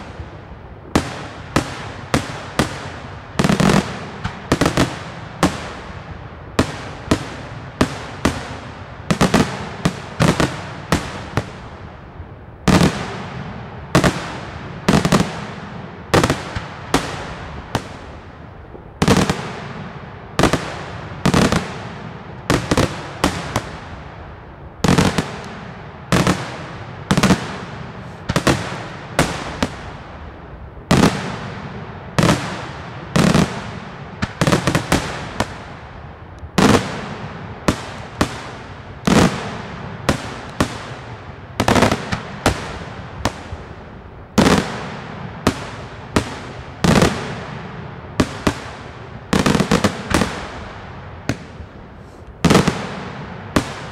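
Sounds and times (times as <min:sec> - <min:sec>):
fireworks bursting with echo: 0:00.0 - 0:53.9.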